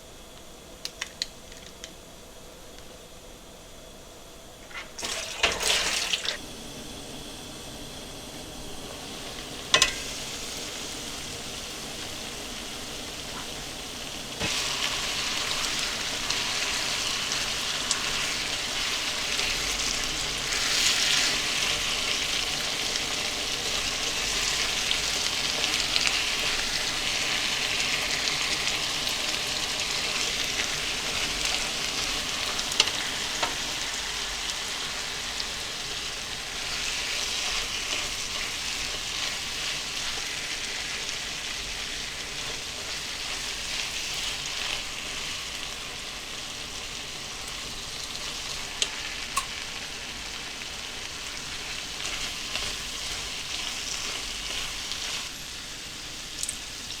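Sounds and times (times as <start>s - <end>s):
food sizzling in a pan: 4.6s - 57.0s.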